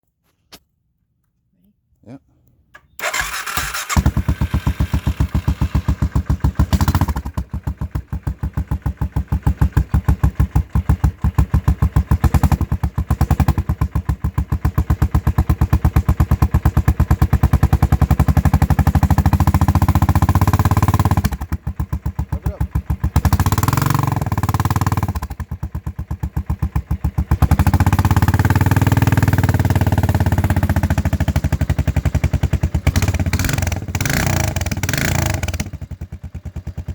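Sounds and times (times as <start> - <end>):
motorcycle engine idling and revving: 3.0 - 36.9.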